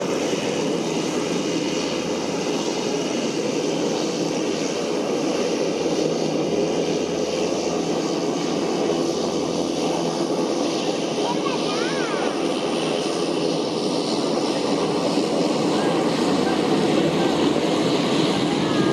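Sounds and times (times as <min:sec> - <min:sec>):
turboprop engines droning: 0:00.0 - 0:18.9.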